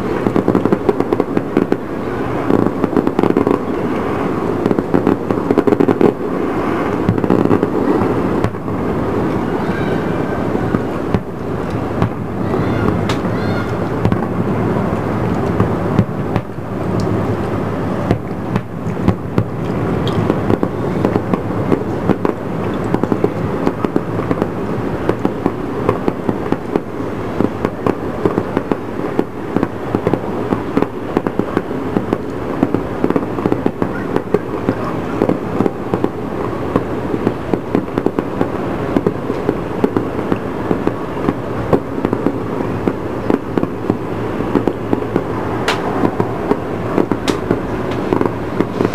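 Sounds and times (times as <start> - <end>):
distant fireworks barrage: 0.0 - 48.9.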